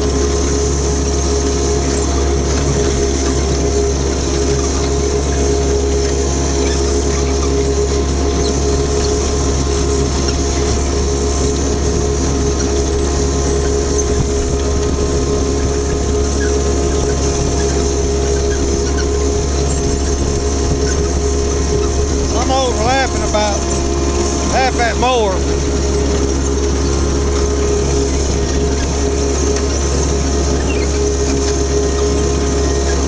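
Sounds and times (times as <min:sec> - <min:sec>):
mower diesel engine running: 0:00.0 - 0:33.0.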